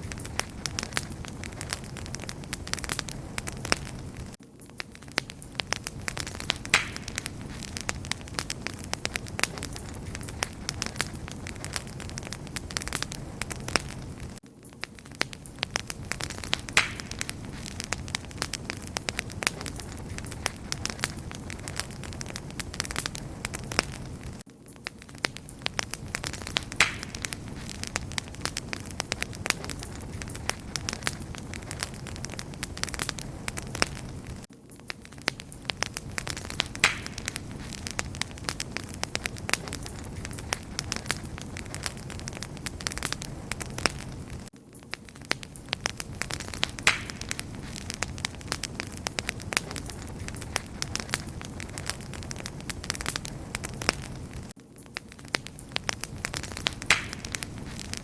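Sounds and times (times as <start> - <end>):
campfire crackling: 0.0 - 58.0
low rush of flames: 0.0 - 58.0.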